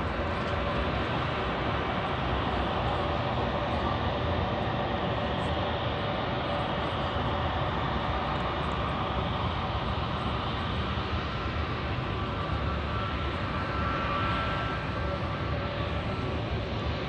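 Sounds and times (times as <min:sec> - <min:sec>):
airliner engines rushing: 0:00.0 - 0:17.0
faint high whine: 0:00.0 - 0:17.0.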